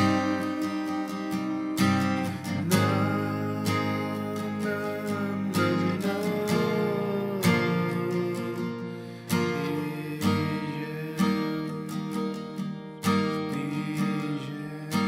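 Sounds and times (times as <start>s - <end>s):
strummed acoustic guitar chords: 0.0s - 15.0s.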